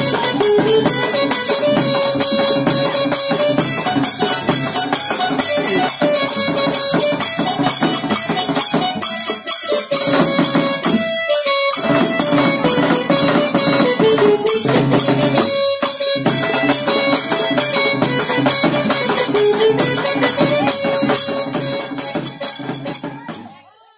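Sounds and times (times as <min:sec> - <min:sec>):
folk melody: 0:00.0 - 0:23.4
fast jingling percussion: 0:00.0 - 0:23.6.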